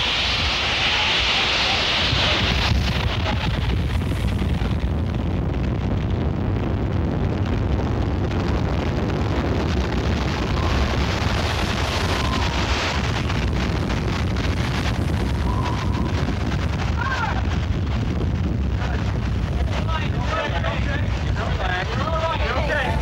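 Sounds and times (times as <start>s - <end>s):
strong wind buffeting microphone: 0.0s - 23.0s.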